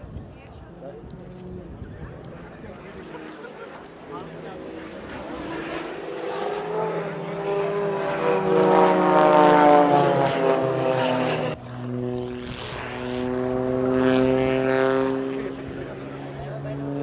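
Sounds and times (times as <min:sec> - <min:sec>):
propeller plane flying past: 0:00.0 - 0:17.0
steady engine drone: 0:00.0 - 0:17.0.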